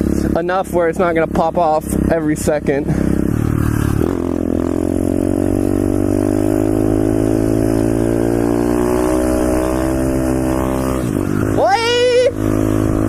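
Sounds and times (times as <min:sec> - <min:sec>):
motorbike engine under throttle: 0:00.0 - 0:13.0.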